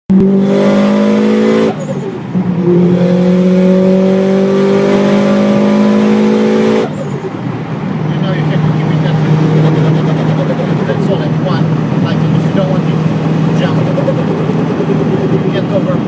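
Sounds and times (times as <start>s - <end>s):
car engine revving high: 0.1s - 16.0s.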